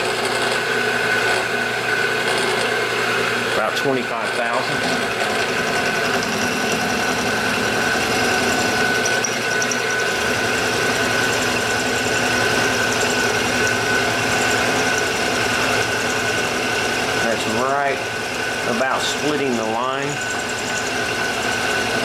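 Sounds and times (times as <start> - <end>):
milling machine cutting metal: 0.0 - 22.0.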